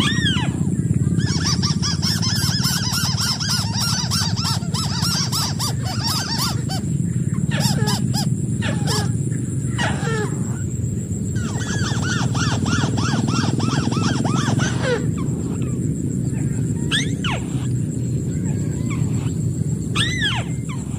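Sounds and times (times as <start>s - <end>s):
bird chattering nasal calls: 0.0s - 20.9s
longer falling bird calls: 0.0s - 20.9s
steady low rumble: 0.0s - 20.9s.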